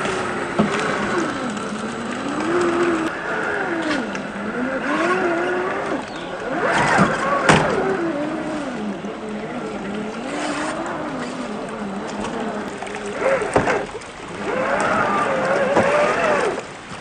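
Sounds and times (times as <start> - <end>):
electric motor whining: 0.0 - 16.7.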